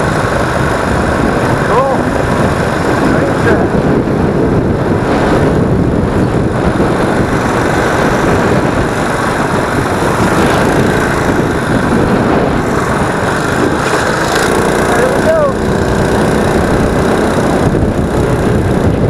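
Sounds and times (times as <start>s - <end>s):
small engine running steadily: 0.0s - 19.0s.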